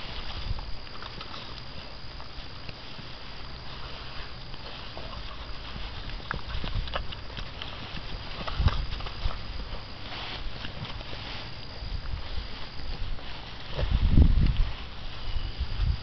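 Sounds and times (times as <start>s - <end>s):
rustling in grass: 0.0s - 16.0s.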